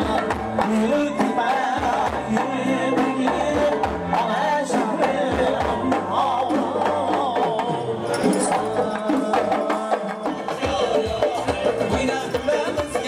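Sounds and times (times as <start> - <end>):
percussion beat: 0.0 - 13.0
person singing folk song: 0.0 - 13.0.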